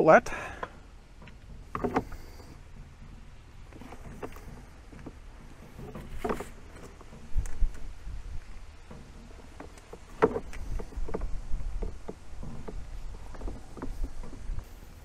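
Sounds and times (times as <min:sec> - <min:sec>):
low thumps: 0:00.5 - 0:14.8.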